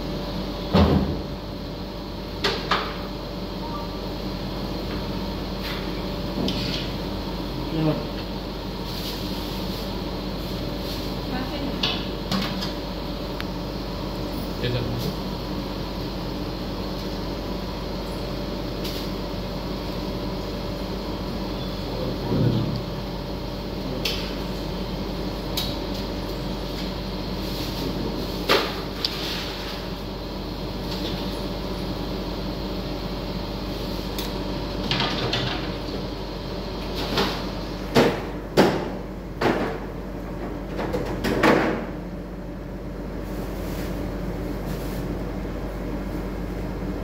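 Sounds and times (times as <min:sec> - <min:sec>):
machine hum: 0:00.0 - 0:41.2.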